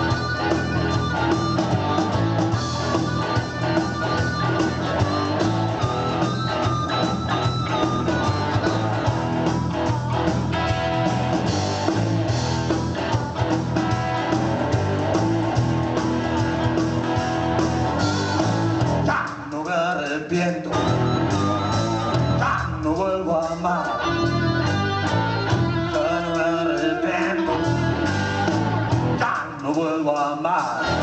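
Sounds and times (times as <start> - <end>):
guitar: 0.0 - 31.0
instrumental band music: 0.0 - 31.0.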